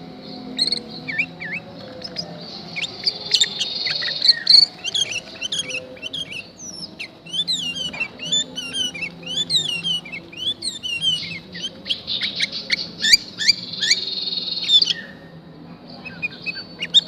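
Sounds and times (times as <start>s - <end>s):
bird whistled chirps: 0.6s - 15.1s, 16.0s - 17.0s.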